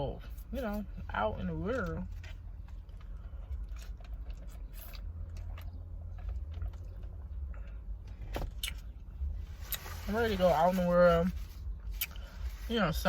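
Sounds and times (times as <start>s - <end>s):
car idling rumble: 0.0s - 13.0s.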